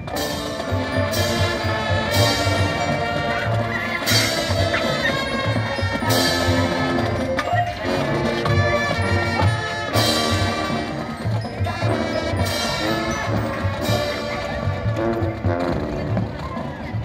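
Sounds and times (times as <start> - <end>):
steady drum beat: 0.0 - 16.4
marching band playing: 0.0 - 17.0.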